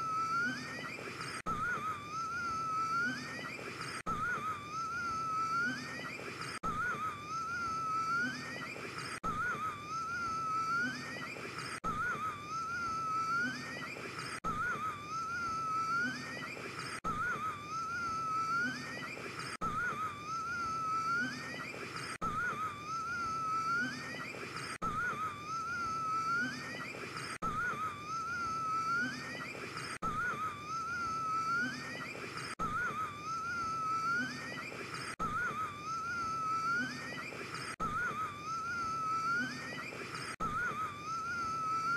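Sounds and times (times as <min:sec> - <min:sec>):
whistling breath tone: 0:00.0 - 0:41.9.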